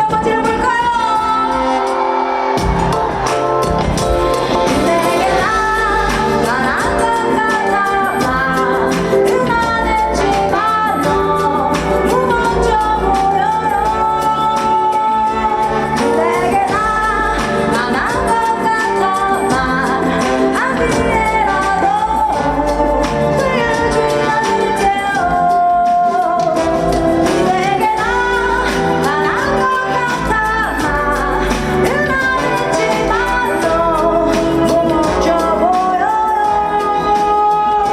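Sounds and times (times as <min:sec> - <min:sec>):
band accompaniment with beat: 0:00.0 - 0:37.9
woman singing pop ballad: 0:00.0 - 0:37.9.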